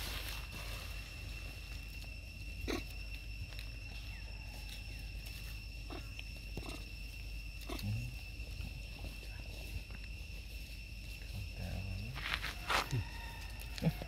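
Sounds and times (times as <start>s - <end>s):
high-pitched insect drone: 0.0s - 14.0s
monkeys moving on dry leaves: 0.0s - 14.0s.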